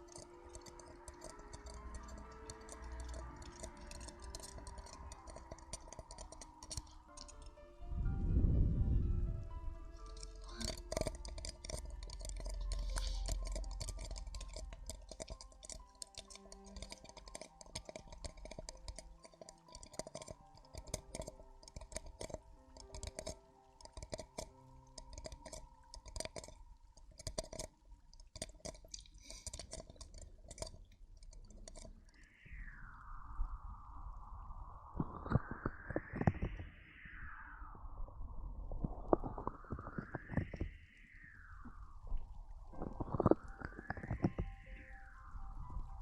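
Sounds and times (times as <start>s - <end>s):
crackling and clicking: 0.0s - 7.7s, 9.5s - 32.4s, 34.9s - 36.7s, 38.7s - 46.0s
faint background music: 0.0s - 33.8s, 39.5s - 46.0s.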